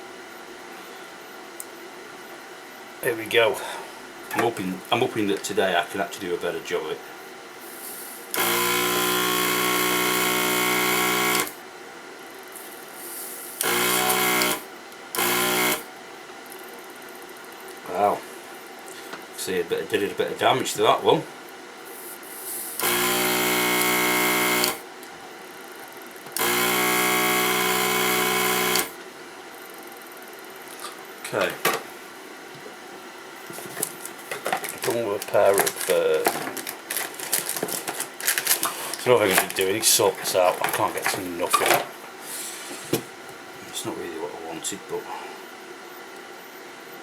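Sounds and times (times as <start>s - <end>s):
desoldering vacuum pump running: 0.0s - 47.0s.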